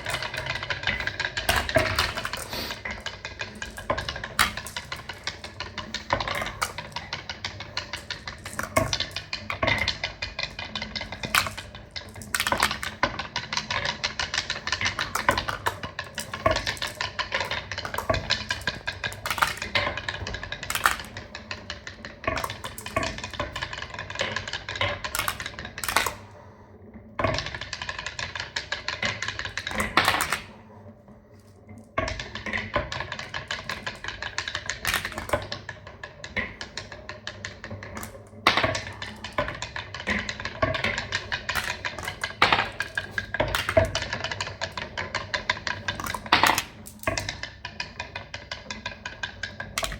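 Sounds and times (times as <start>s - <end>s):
marbles clattering down track: 0.0s - 26.4s, 27.2s - 30.7s, 31.4s - 49.9s.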